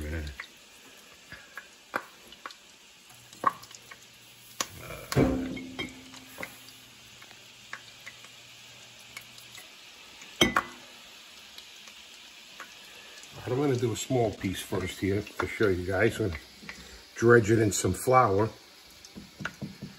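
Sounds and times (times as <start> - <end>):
oil sizzling in frying pan: 0.0 - 19.9.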